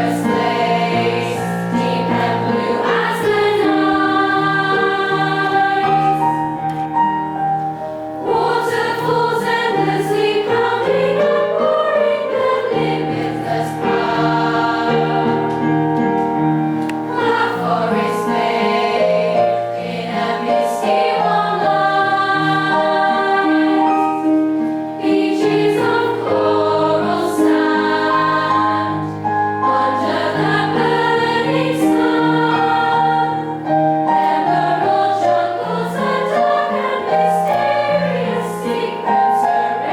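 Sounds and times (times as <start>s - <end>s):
choir singing: 0.0s - 6.7s, 8.2s - 16.0s, 16.9s - 39.9s.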